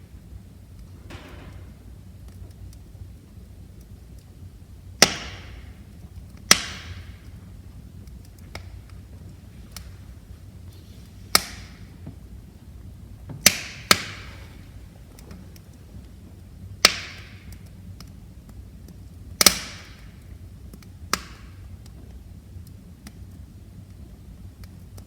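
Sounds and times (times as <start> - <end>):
low steady burning noise: 0.0 - 25.0
burning logs popping: 0.1 - 25.0.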